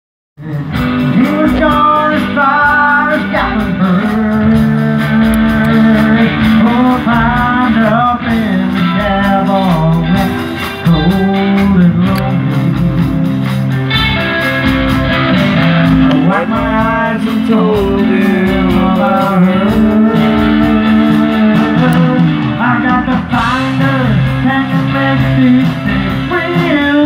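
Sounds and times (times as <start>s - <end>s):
person singing: 0.4s - 13.7s, 15.5s - 27.0s
guitar: 0.4s - 27.0s.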